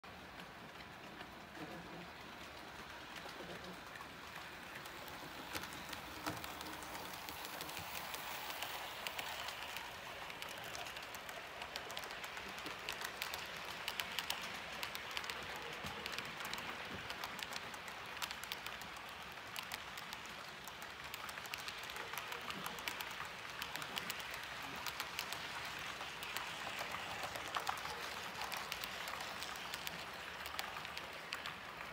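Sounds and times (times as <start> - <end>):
model train rattling on track: 0.1 - 31.9.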